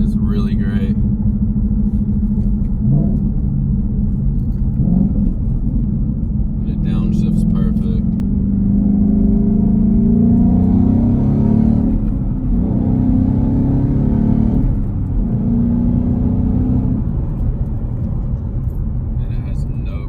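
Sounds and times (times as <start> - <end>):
car engine accelerating through gears: 1.0 - 19.7.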